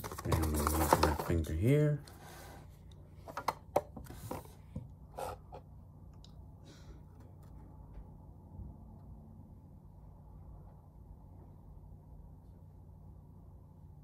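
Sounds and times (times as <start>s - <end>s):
low steady room hum: 0.0s - 14.0s.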